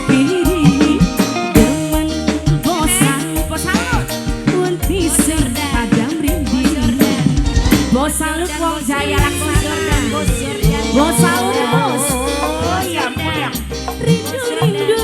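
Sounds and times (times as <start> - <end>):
bass and drum beat: 0.0 - 15.0
live band music: 0.0 - 15.0
sliding melodic line: 0.0 - 15.0.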